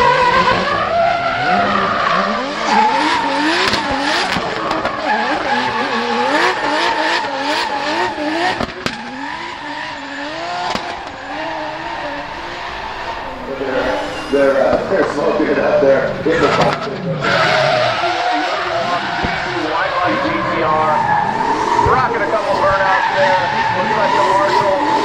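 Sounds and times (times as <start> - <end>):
car engine revving hard: 0.0 - 25.0
tyres screeching and skidding: 0.0 - 25.0.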